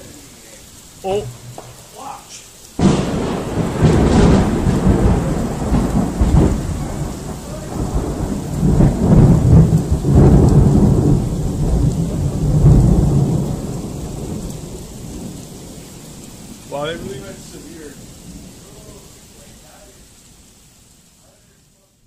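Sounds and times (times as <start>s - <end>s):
rain falling: 0.0s - 22.0s
rolling thunder: 1.2s - 19.8s.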